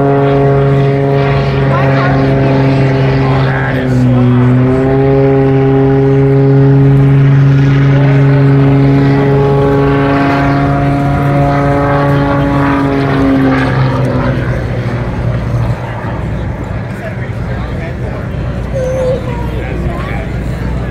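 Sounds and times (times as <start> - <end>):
propeller plane engine droning: 0.0 - 20.9.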